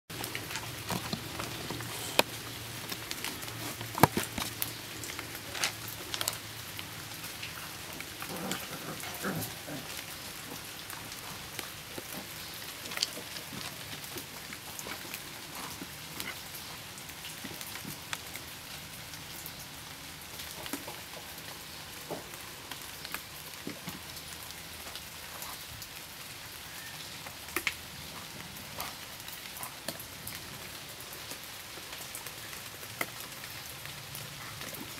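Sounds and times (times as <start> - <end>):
rain on leaves and ground: 0.1 - 34.9.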